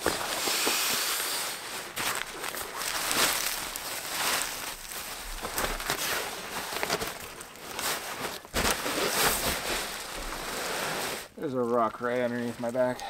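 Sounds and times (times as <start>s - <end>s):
sleeping gear rustling over dirt: 0.0s - 13.0s.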